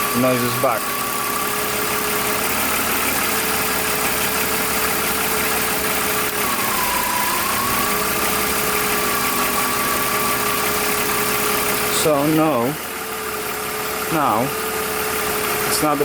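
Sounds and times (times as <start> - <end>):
car engine idling: 0.0 - 16.0
high alternator whistle: 0.0 - 16.0.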